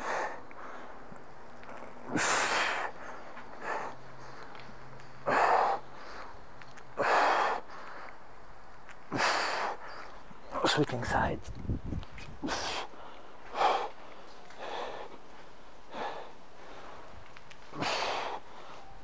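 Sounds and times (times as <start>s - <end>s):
man breathing hard: 0.0s - 8.4s, 9.0s - 10.4s, 12.4s - 19.0s.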